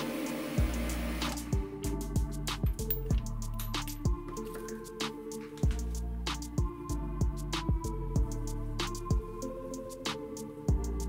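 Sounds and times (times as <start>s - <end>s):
kick drum and cymbal beat: 0.0s - 11.0s.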